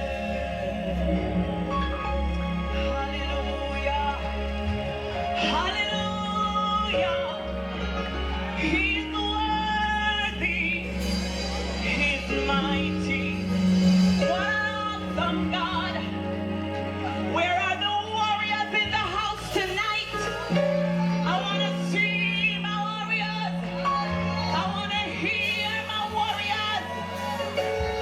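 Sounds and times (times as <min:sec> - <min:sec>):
gospel group singing: 0:00.0 - 0:28.0
instrumental accompaniment: 0:00.0 - 0:28.0.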